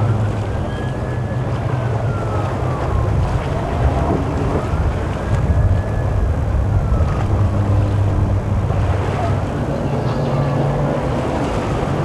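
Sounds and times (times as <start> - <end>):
outboard boat engines droning: 0.0 - 12.0.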